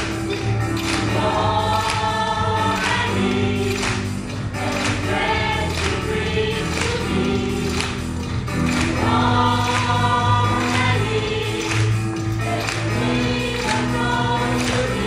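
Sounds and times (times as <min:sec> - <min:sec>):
gospel choir singing in harmony: 0:00.0 - 0:15.0.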